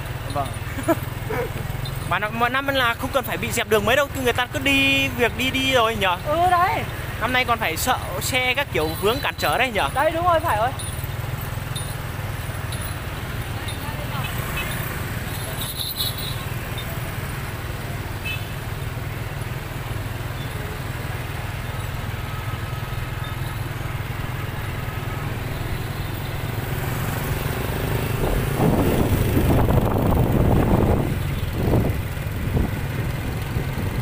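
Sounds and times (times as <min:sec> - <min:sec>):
motorbike traffic rumble: 0:00.0 - 0:34.0.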